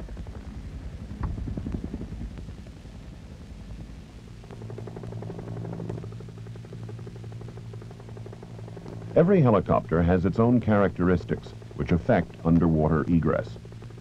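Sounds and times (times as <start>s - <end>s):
helicopter rotor blades beating: 0.0s - 14.0s
low engine drone: 0.0s - 14.0s.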